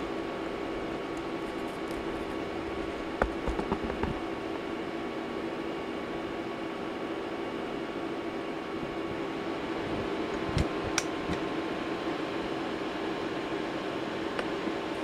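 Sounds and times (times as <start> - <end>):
cooling fans whirring: 0.0 - 15.0.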